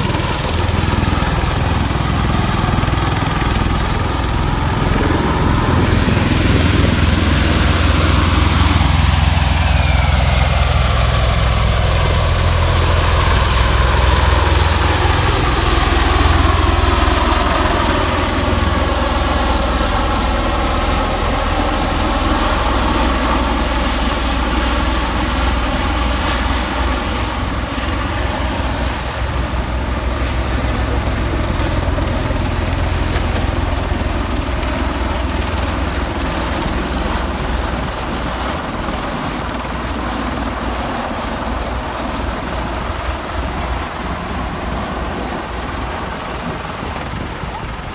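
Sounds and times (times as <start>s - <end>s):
aircraft engine noise: 0.0s - 47.9s
aircraft rotors beating: 0.0s - 47.9s.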